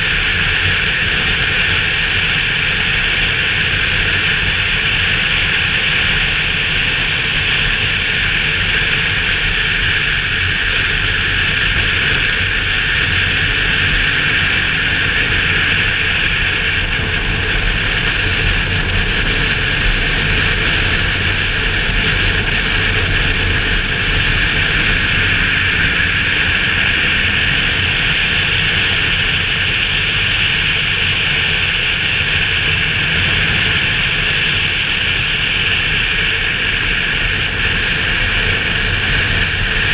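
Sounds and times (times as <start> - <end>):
motorcycle engine running low: 0.0 - 39.9
wind rush and road noise: 0.0 - 39.9.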